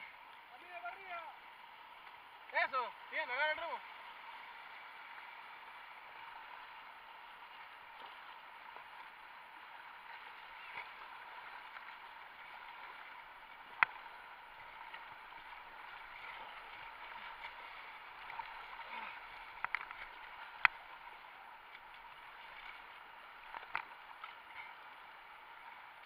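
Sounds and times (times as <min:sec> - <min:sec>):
river water splashing around kayak: 0:00.0 - 0:26.0.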